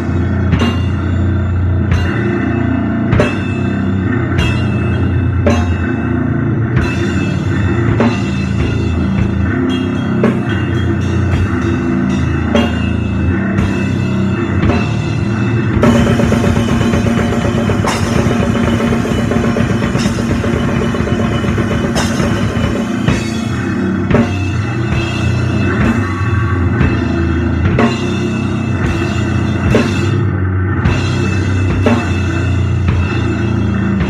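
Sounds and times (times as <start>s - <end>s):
distorted guitar: 0.0s - 34.0s
drums and cymbal hits: 0.0s - 34.0s.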